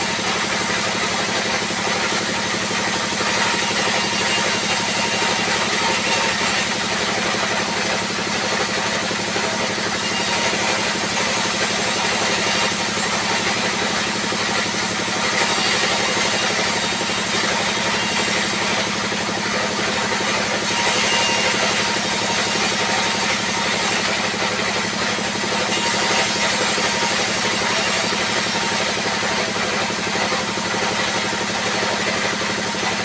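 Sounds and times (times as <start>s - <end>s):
band saw running: 0.0s - 33.0s.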